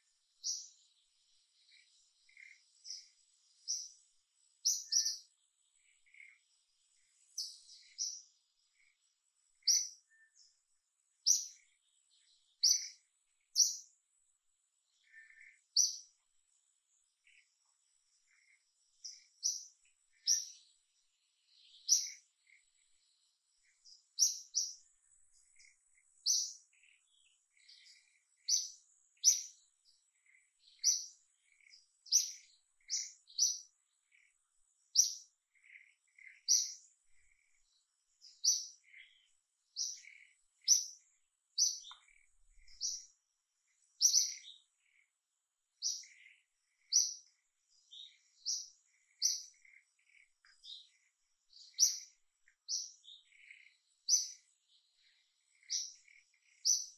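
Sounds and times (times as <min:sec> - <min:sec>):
bird chirping: 0:00.0 - 0:56.9.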